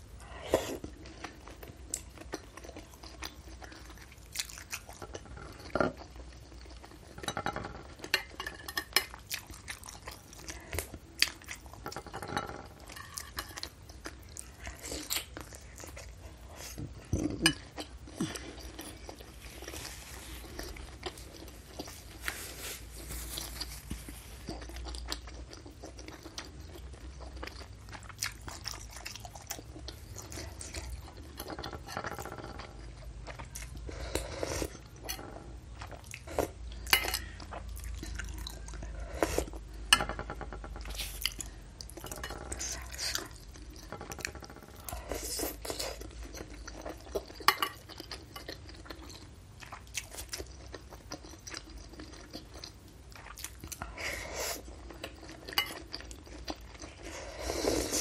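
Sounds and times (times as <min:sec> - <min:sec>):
chewing with wet mouth sounds: 0:00.0 - 0:58.0.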